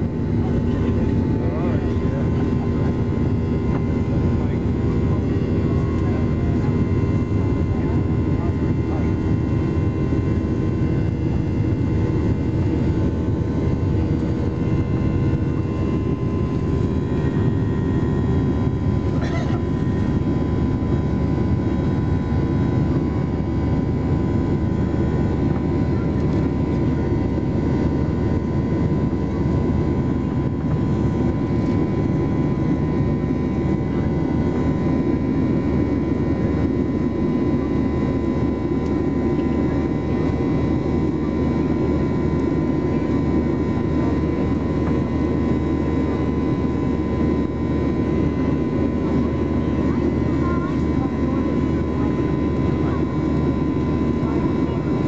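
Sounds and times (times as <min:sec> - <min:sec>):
jet engine rush in cabin: 0:00.0 - 0:55.0.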